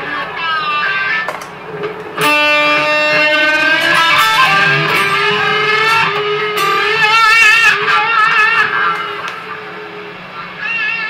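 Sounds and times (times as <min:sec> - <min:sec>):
electric guitar chords: 0:00.0 - 0:11.0.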